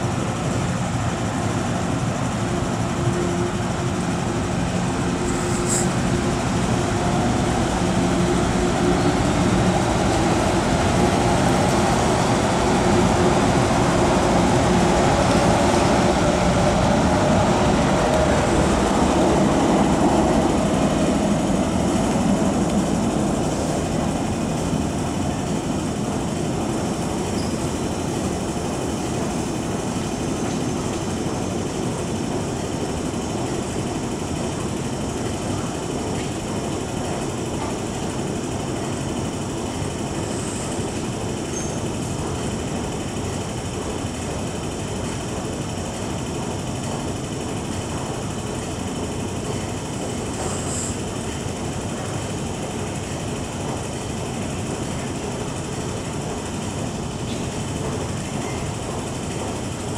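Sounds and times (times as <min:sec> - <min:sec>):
train passing through station: 0:00.0 - 0:59.9.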